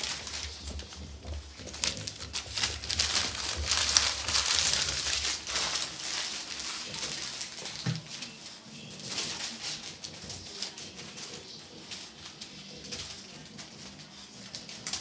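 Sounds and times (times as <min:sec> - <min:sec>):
newspaper crinkling under paws: 0:00.0 - 0:15.0.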